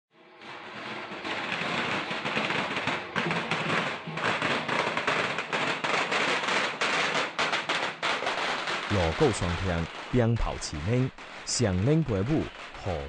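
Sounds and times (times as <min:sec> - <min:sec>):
firecrackers crackling: 0:00.2 - 0:13.0.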